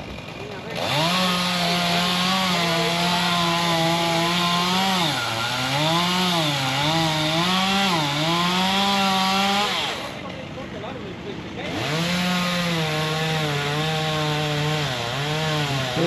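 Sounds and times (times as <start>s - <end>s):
chainsaw cutting: 0.0s - 16.0s.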